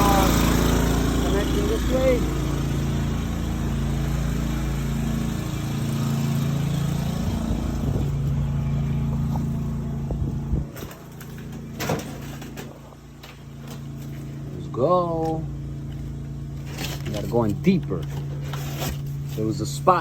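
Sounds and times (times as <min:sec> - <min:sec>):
water jetter engine running: 0:00.0 - 0:20.0.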